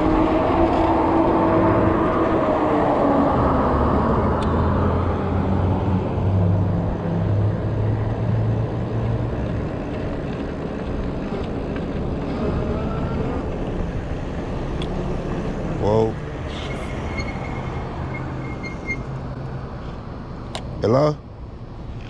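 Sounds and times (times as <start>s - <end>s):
low engine hum: 0.0s - 22.0s
traffic passing: 0.0s - 22.0s.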